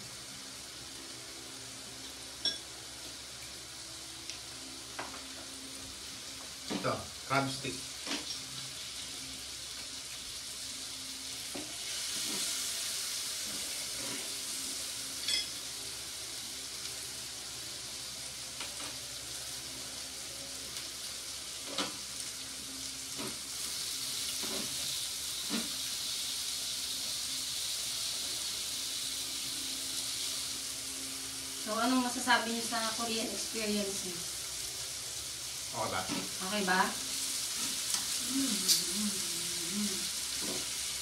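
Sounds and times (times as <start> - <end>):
meat sizzling on a grill pan: 0.0 - 41.0.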